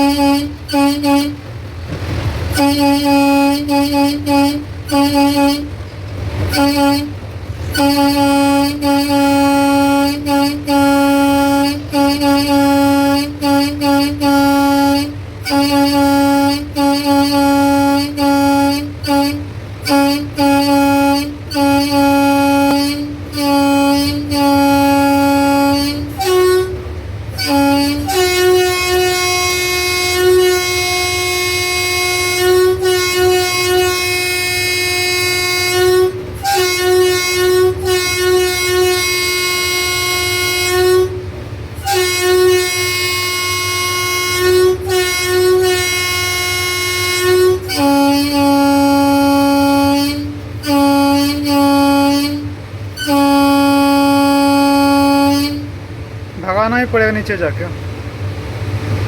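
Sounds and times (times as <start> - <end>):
locomotive horn blasts: 0.0 - 55.9.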